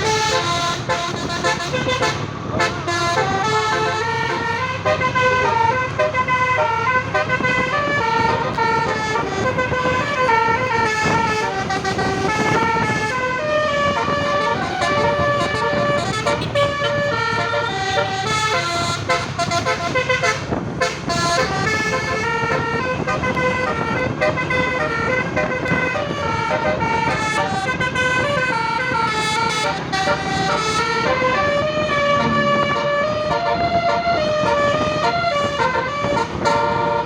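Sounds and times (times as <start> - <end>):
low engine and traffic rumble: 0.0 - 37.0
musical air horn melody: 0.0 - 37.0.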